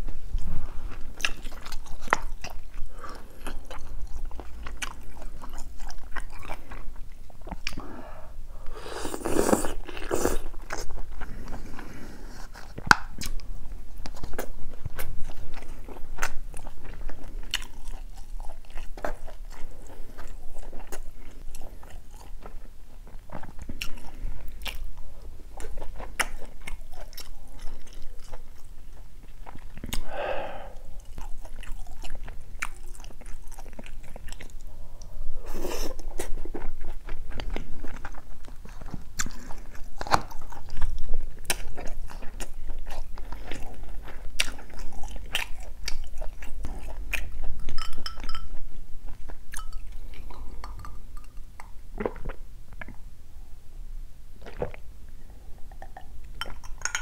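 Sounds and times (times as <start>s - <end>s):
wet chewing: 0.0s - 7.9s, 8.9s - 30.2s, 30.9s - 34.7s, 35.6s - 53.0s.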